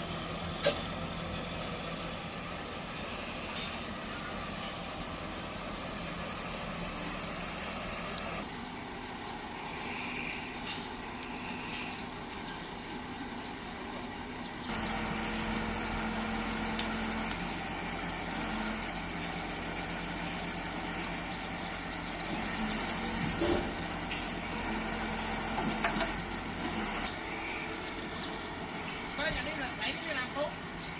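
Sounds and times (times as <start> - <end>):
construction machinery engine drone: 0.0 - 30.9.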